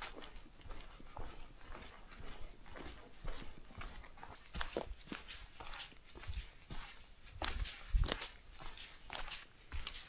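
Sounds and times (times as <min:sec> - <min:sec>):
footsteps on trail: 0:00.0 - 0:10.0.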